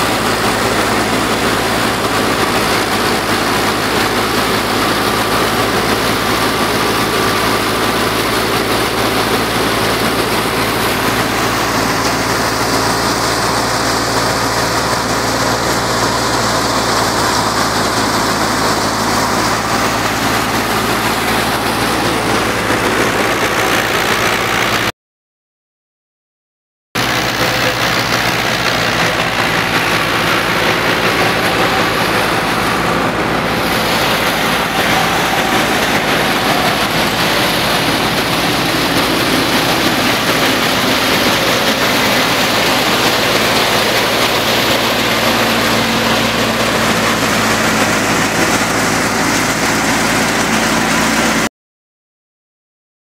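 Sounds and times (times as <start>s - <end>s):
thresher rattling: 0.0s - 24.8s, 27.0s - 51.4s
tractor engine running: 0.0s - 24.9s, 27.0s - 51.5s.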